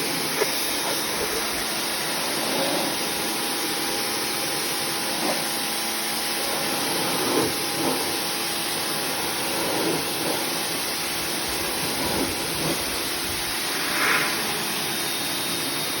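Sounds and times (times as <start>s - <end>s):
pressure washer spray hissing: 0.0s - 16.0s.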